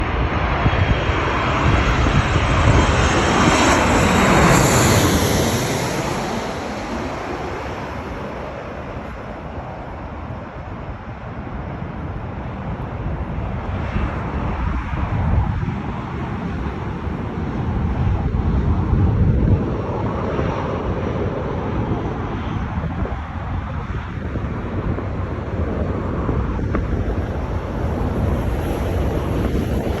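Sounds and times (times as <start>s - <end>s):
jet airliner passing by: 0.0s - 30.0s
wind noise: 0.0s - 30.0s.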